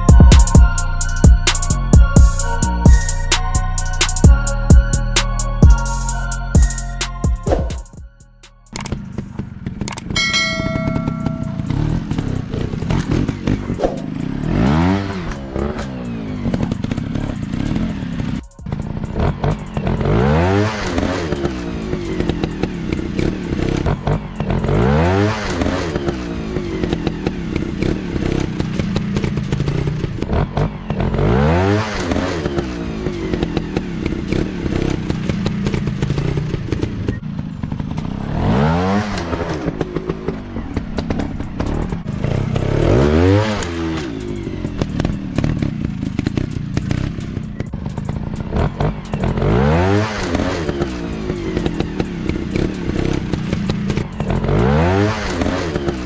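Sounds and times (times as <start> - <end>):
motorcycle engine throttle blips: 7.1 - 56.0.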